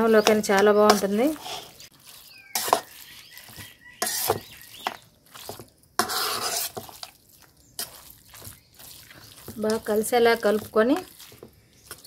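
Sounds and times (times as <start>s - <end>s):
spoon stirring in a metal bowl: 0.0s - 12.0s.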